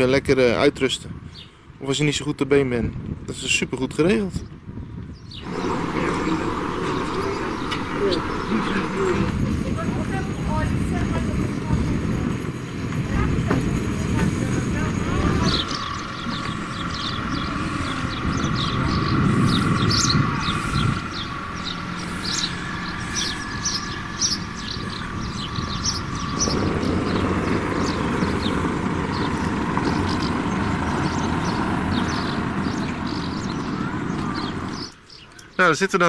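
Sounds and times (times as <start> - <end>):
small birds chirping: 1.2 - 2.0, 3.5 - 36.0
low outdoor rumble: 5.4 - 35.0.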